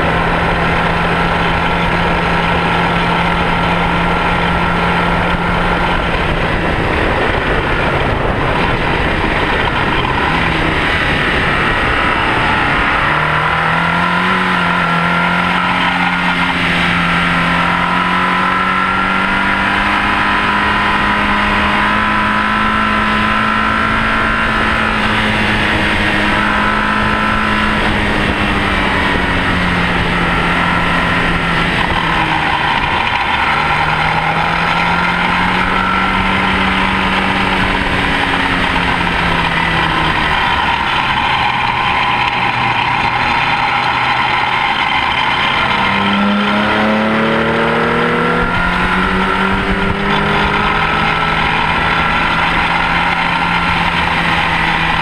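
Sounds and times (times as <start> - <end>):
racing car engine revving: 0.0 - 55.0
wind and road noise: 0.0 - 55.0.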